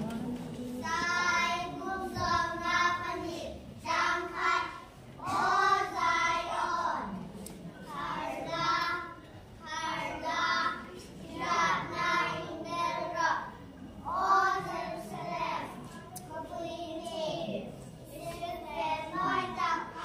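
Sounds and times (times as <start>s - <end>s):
children singing in unison: 0.8s - 7.2s, 7.8s - 16.7s, 18.2s - 20.0s.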